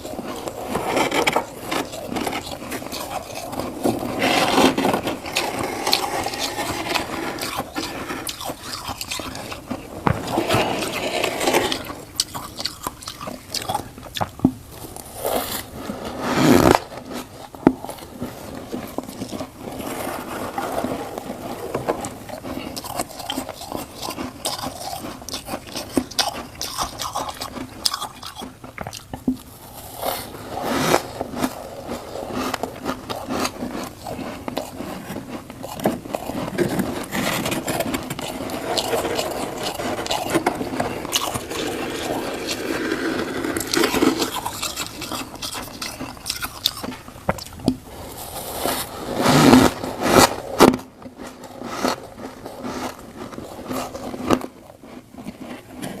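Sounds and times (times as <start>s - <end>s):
crunchy frost being chewed: 0.0s - 56.0s.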